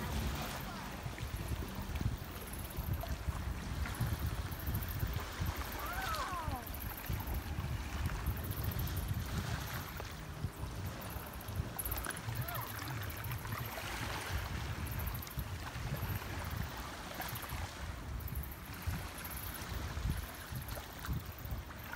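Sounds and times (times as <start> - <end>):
water lapping around pilings: 0.0 - 21.9
wind buffeting the microphone: 0.0 - 21.9.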